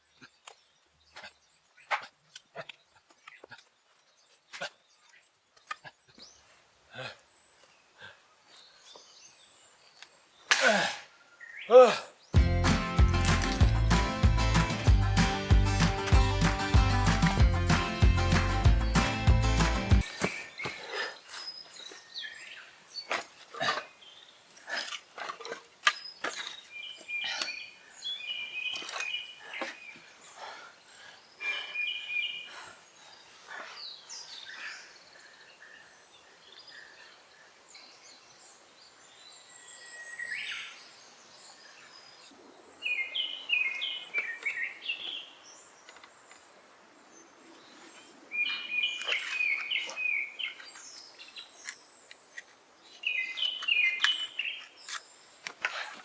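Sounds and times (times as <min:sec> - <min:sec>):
songbirds singing: 0:00.0 - 0:06.6, 0:11.2 - 0:55.7.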